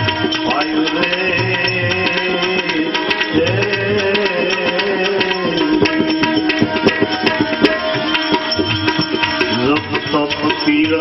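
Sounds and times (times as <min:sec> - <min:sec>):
sustained melody: 0:00.0 - 0:11.0
tabla drumming: 0:00.0 - 0:11.0.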